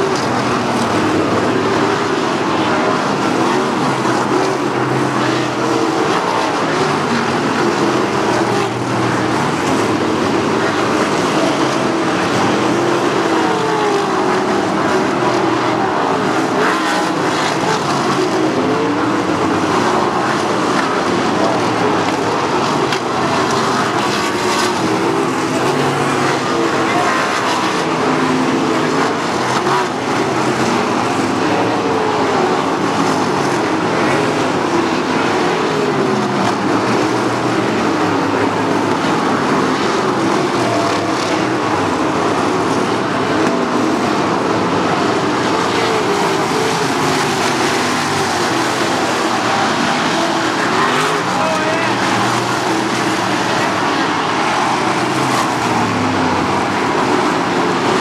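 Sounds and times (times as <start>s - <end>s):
race car engines racing: 0.0s - 58.0s.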